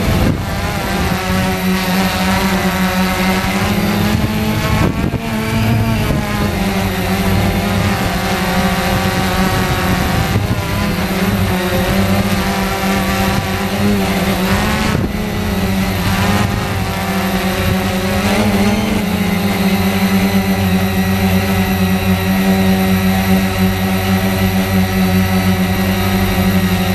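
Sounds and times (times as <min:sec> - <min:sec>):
quadcopter motors buzzing: 0:00.0 - 0:26.9.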